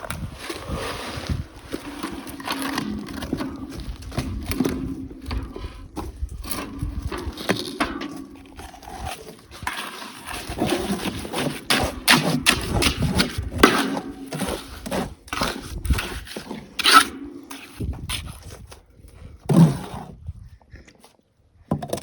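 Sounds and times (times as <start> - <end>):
scraping and rubbing on roof: 0.0 - 20.3.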